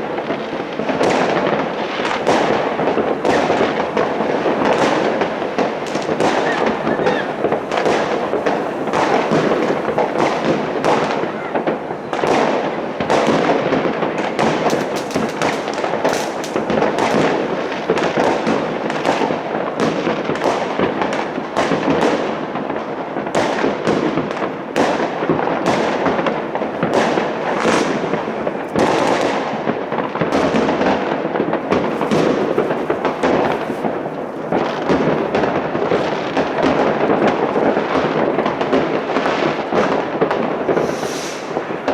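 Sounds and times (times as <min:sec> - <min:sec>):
fireworks popping and crackling: 0:00.0 - 0:41.9.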